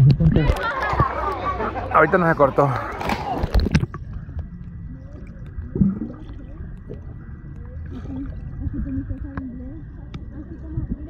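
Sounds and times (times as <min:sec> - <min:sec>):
muffled underwater rumbling and bubbling: 0:00.0 - 0:11.0
water splashing: 0:00.0 - 0:11.0.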